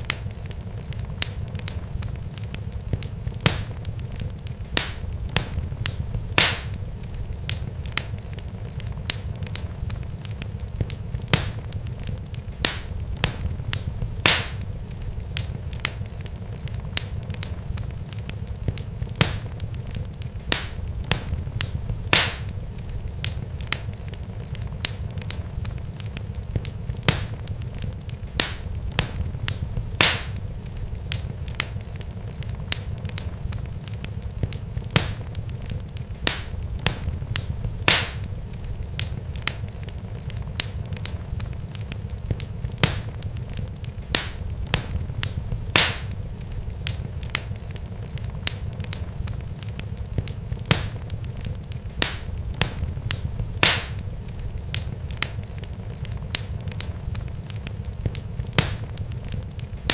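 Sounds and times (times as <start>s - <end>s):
sharp crackles and pops: 0.0s - 59.9s
steady low rumble: 0.0s - 59.9s.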